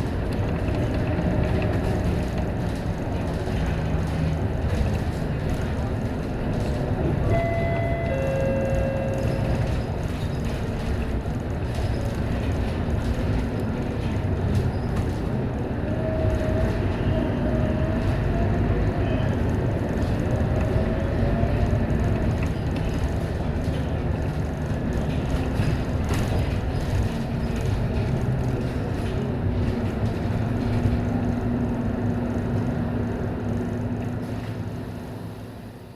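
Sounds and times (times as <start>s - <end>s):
bus engine and road rumble: 0.0s - 35.9s.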